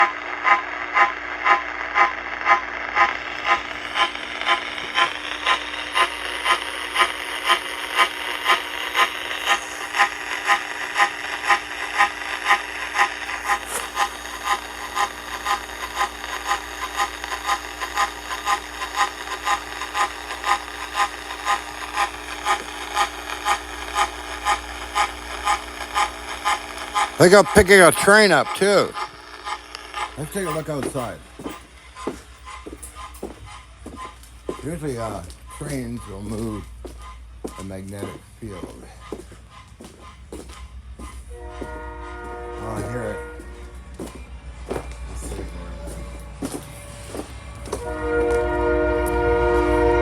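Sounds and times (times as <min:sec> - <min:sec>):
radio signal pulses: 0:00.0 - 0:50.0
steady hum and hiss: 0:02.7 - 0:50.0.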